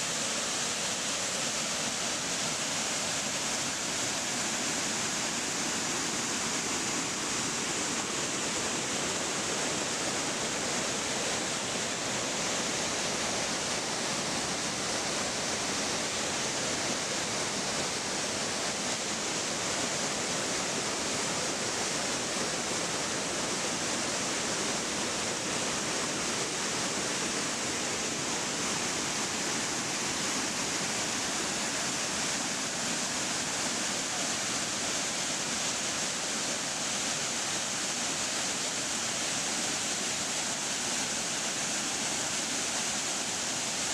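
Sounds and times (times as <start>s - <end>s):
waterfall pouring into pool: 0.0s - 43.9s.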